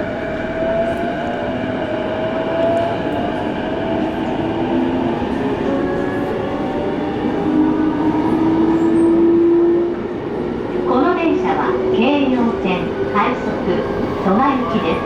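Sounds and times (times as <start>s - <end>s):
train rail and running noise: 0.0s - 15.0s.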